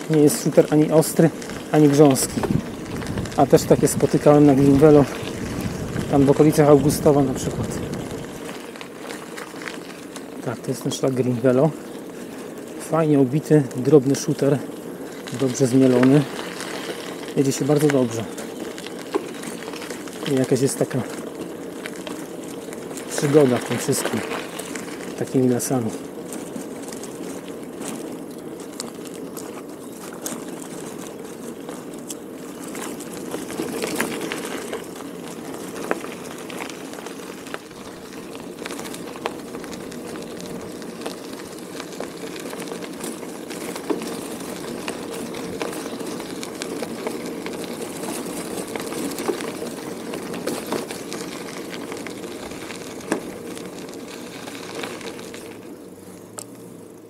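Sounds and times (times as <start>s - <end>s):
bicycle tyres on gravel: 0.0s - 57.0s.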